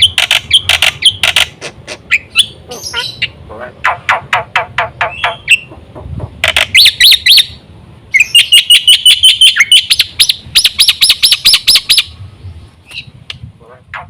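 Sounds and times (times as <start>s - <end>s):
myna chirping and chattering: 0.0s - 12.1s.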